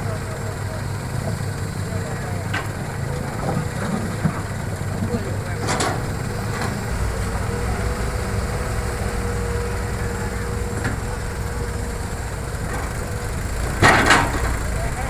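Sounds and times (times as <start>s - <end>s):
excavator diesel engine rumbling: 0.0s - 15.0s
hydraulic whine: 0.0s - 15.0s.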